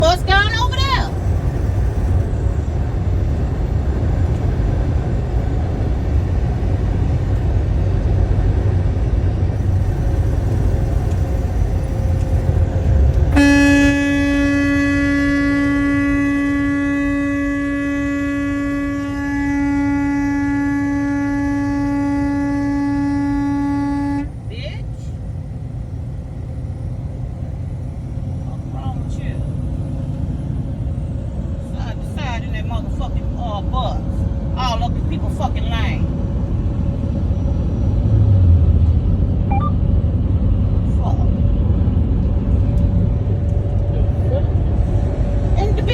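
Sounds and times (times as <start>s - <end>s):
vehicle road rumble: 0.0s - 45.9s.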